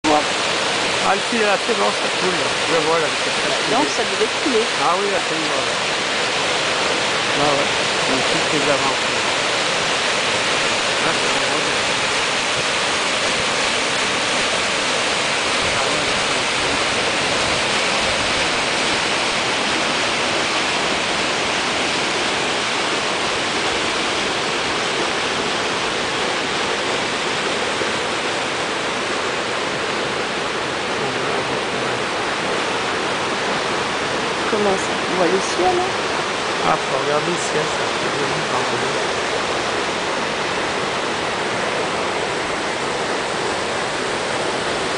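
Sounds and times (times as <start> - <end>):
river rushing over boulders: 0.0 - 44.9.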